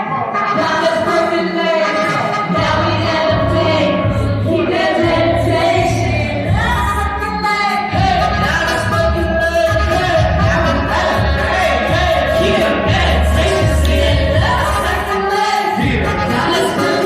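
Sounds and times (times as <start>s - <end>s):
live hip-hop music: 0.0s - 17.0s
pounding bass beat: 2.5s - 15.2s, 15.8s - 17.0s.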